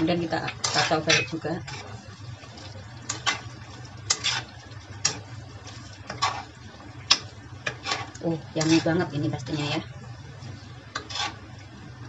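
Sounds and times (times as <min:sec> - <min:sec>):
utensil scraping in metal wok: 0:00.0 - 0:09.8, 0:10.4 - 0:11.6
steady low hum: 0:00.0 - 0:12.0.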